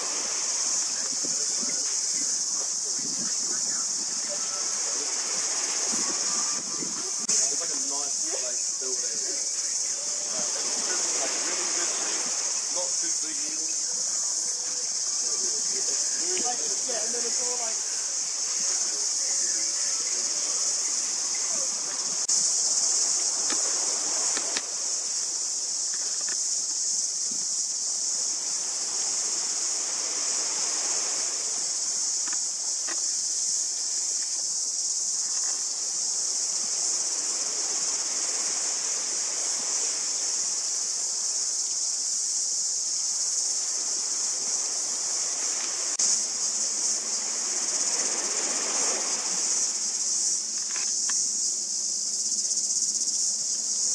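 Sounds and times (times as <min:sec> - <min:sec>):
waves washing: 0:00.0 - 0:51.1
insects trilling: 0:00.0 - 0:53.9.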